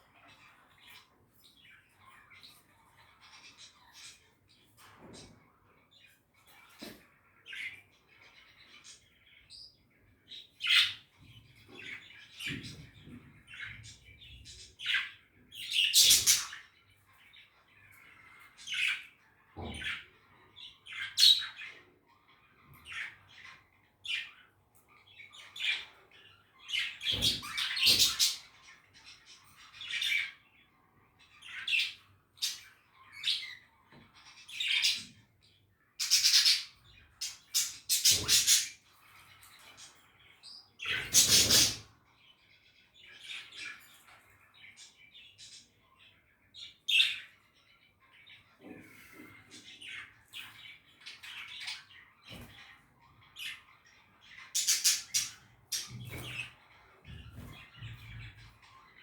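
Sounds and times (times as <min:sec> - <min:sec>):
budgies chirping: 0:00.0 - 0:59.0.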